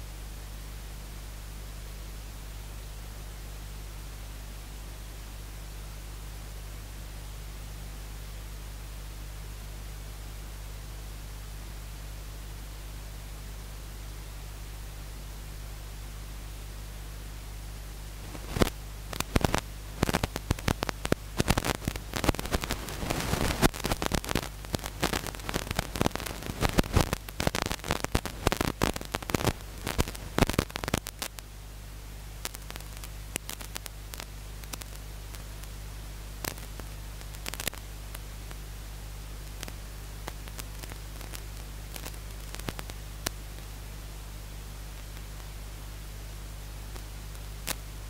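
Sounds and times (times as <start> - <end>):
crackling static: 0.0 - 48.0
low electrical hum: 0.0 - 48.0.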